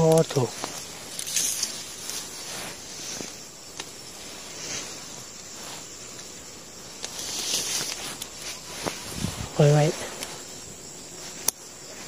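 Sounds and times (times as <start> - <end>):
dry leaves and grass rustling: 0.0 - 12.0.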